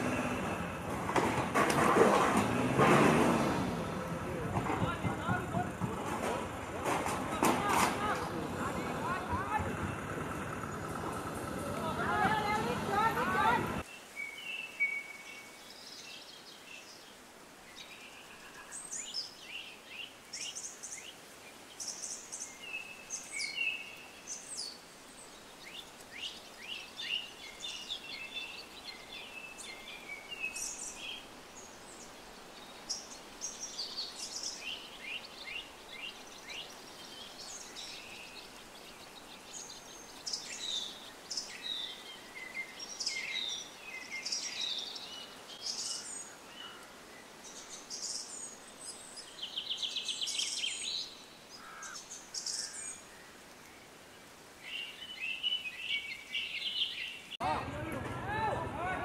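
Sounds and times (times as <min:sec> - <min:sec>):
small birds chirping and singing: 0:02.2 - 0:57.4.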